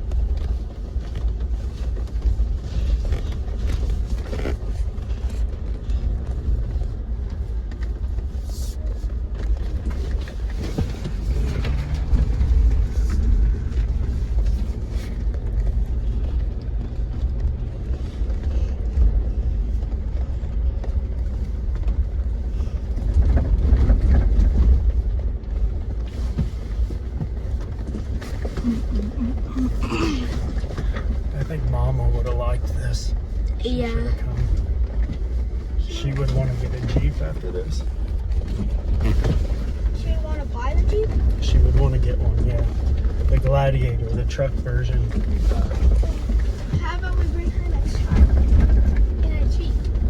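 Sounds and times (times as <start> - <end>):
engine and tyres rumbling: 0.0 - 50.0.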